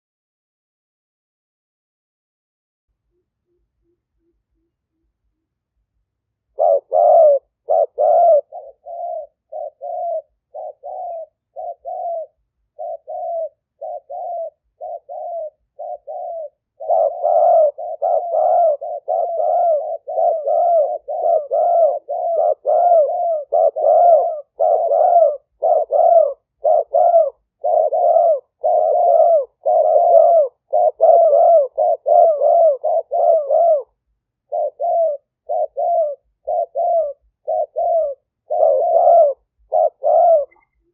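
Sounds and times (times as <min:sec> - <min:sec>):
dove cooing: 0:06.5 - 0:40.9.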